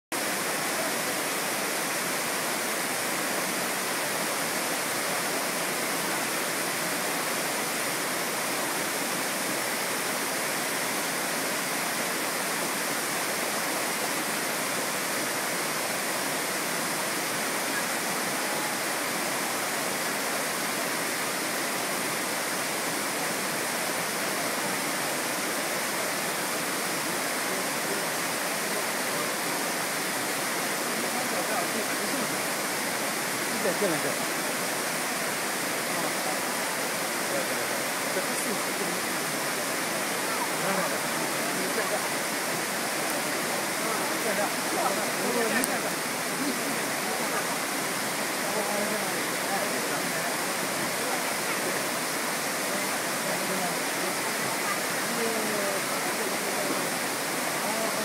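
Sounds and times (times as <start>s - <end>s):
waterfall rushing: 0.1s - 58.0s.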